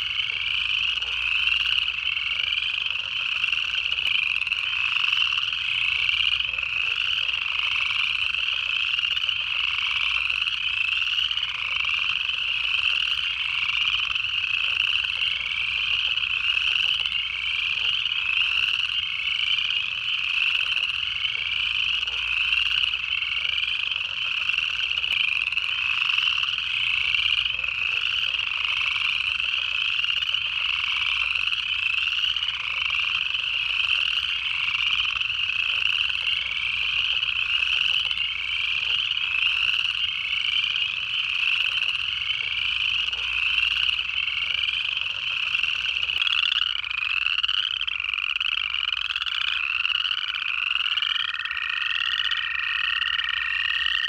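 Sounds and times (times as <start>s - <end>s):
chorus of frogs trilling: 0.0s - 54.0s.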